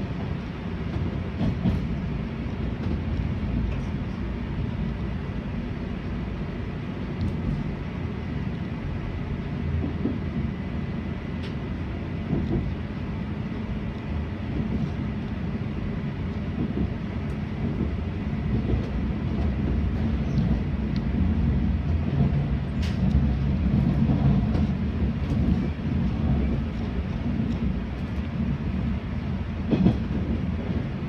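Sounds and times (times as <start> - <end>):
train wheels rumbling: 0.0 - 31.0.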